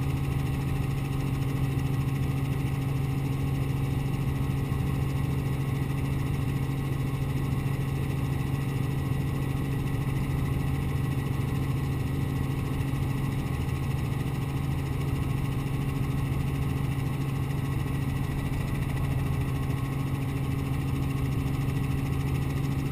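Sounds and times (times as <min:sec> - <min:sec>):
helicopter engine and rotors droning: 0:00.0 - 0:22.9.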